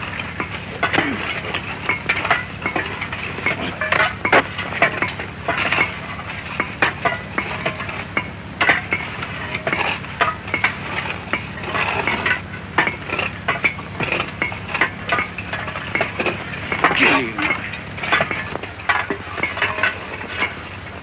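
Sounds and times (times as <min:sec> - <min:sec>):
old film soundtrack hum and crackle: 0:00.0 - 0:21.0.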